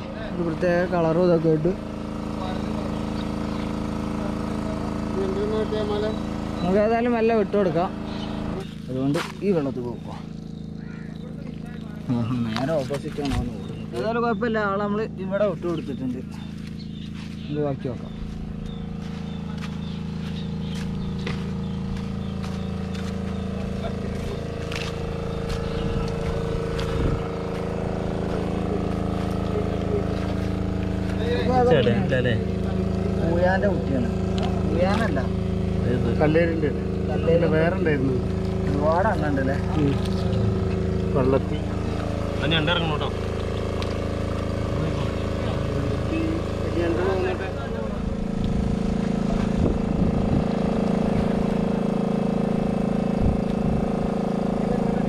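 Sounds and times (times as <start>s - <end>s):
water pump engine running: 0.0s - 55.0s.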